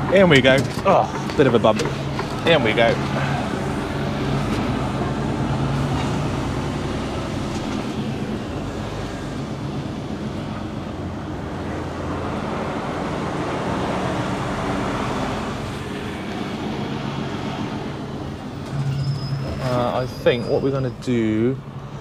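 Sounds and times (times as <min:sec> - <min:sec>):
diesel truck engine running: 0:00.0 - 0:22.0
road noise: 0:00.0 - 0:22.0.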